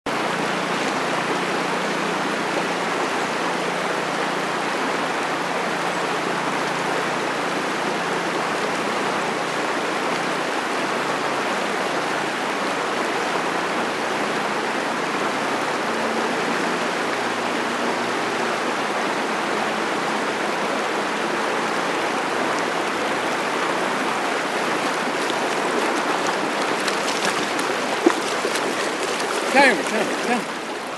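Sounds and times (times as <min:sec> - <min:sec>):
creek water rushing over rocks: 0:00.1 - 0:30.9.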